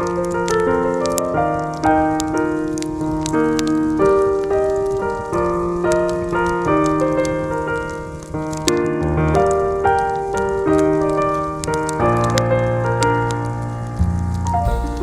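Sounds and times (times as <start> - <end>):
soft jazz piano music: 0.0 - 15.0.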